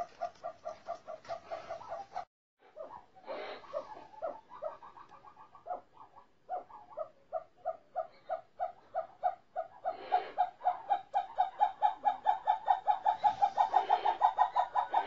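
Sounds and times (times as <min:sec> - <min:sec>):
snowcocks clucking: 0:00.0 - 0:07.1, 0:08.0 - 0:15.0.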